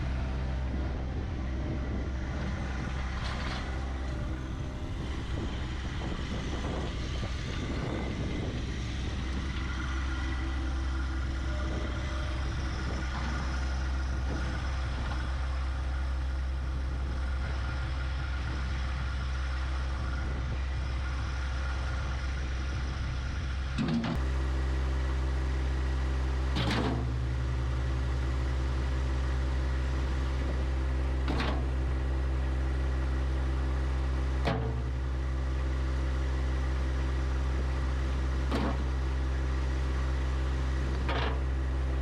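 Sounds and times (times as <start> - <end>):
engine clatter: 0.0 - 42.0
tractor diesel engine running: 0.0 - 42.0.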